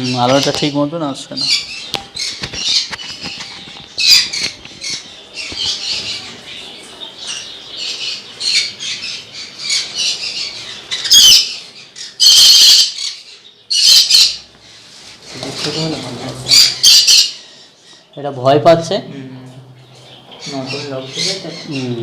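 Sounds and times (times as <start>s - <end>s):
parrots squawking: 0.0s - 18.1s, 20.1s - 22.0s.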